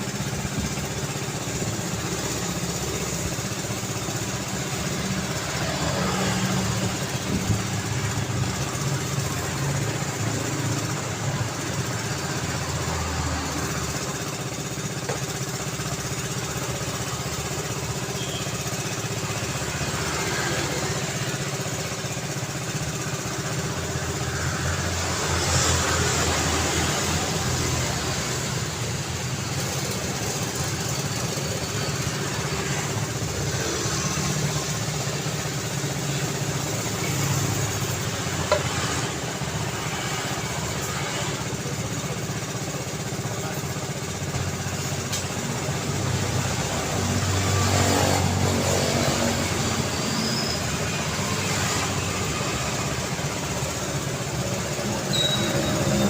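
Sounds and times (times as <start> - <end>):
road traffic hum: 0.0 - 56.0.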